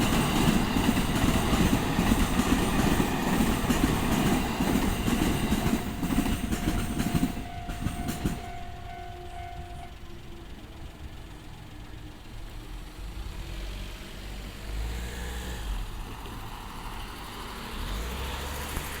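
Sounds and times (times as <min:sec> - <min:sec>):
car engines idling and pulling away: 0:00.0 - 0:19.0.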